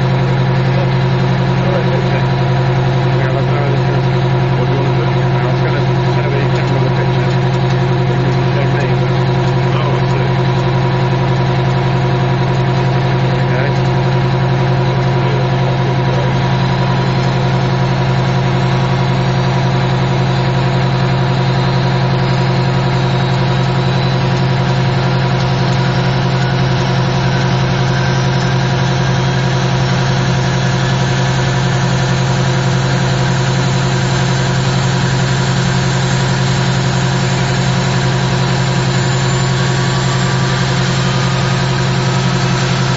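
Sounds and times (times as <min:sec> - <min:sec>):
engine hiss and whine: 0:00.0 - 0:42.9
turboprop engines idling: 0:00.0 - 0:42.9.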